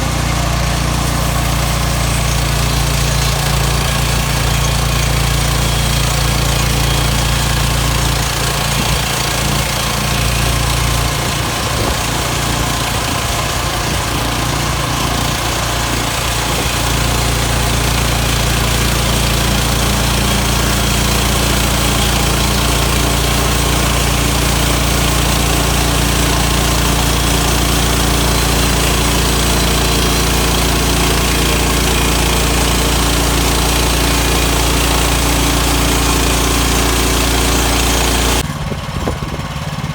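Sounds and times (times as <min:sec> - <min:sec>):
petrol engine running: 0:00.0 - 0:39.9.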